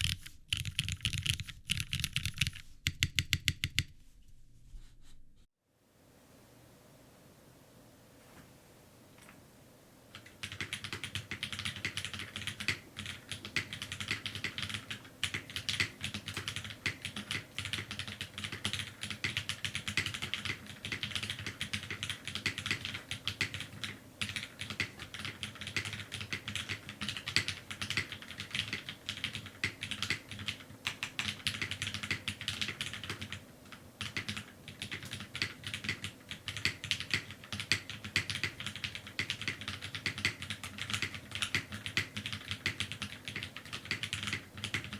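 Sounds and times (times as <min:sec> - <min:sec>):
typing on mechanical keyboard: 0:00.0 - 0:03.9, 0:10.1 - 0:44.9.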